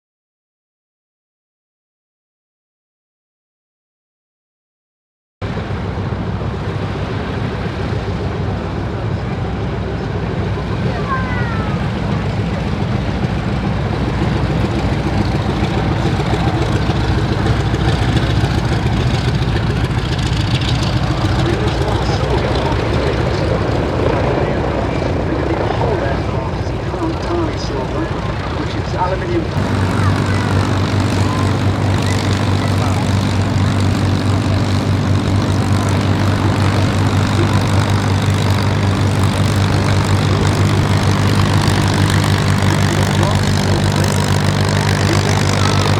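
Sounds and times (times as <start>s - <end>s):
piston aircraft engines rumbling: 5.4s - 45.9s.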